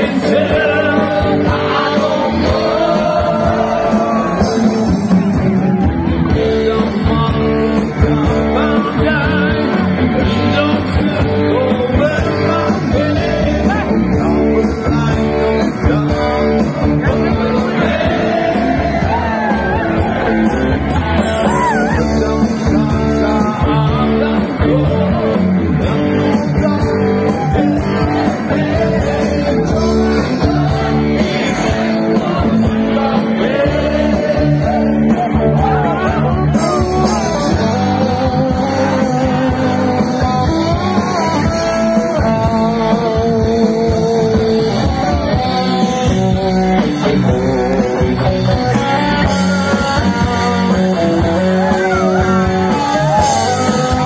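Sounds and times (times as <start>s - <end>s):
bass guitar: 0.0s - 54.0s
drums: 0.0s - 54.0s
electric guitar: 0.0s - 54.0s
person singing: 0.0s - 54.0s.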